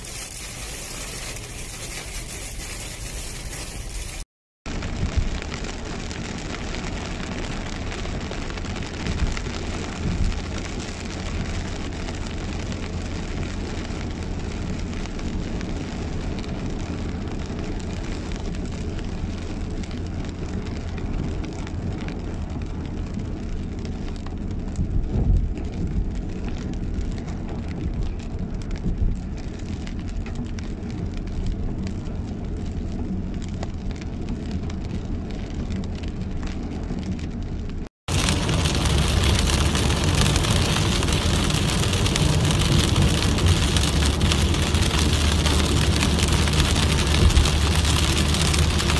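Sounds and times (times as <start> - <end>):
heavy rain hitting a car: 0.0 - 48.9
tyres rumbling on wet road: 0.0 - 48.9.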